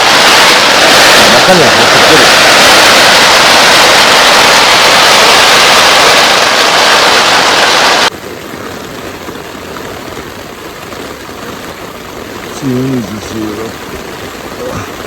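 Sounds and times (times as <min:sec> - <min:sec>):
heavy rain on a tent: 0:00.0 - 0:15.0
steady rain hiss: 0:00.0 - 0:15.0.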